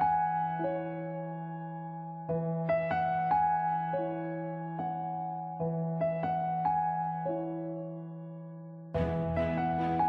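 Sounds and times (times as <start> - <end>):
soft electric piano melody: 0.0 - 10.0.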